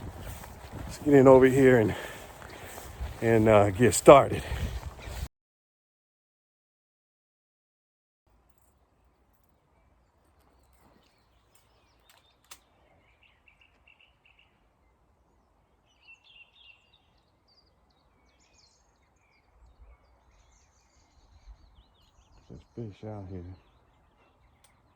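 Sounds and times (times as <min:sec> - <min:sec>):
small birds chirping: 0:00.0 - 0:05.3, 0:08.6 - 0:24.9.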